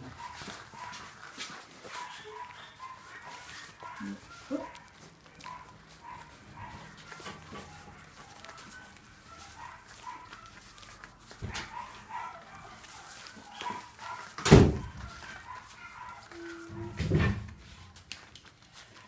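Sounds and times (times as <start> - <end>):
puppies yipping: 0.0 - 19.0
scuffling knocks: 0.0 - 19.0.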